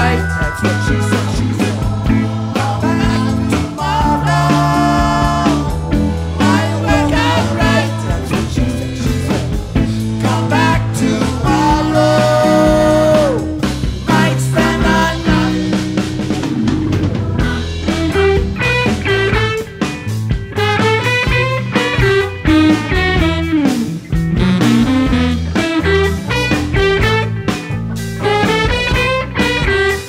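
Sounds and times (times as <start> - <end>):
funk band playing: 0.0 - 30.0
sliding lead melody: 0.0 - 30.0.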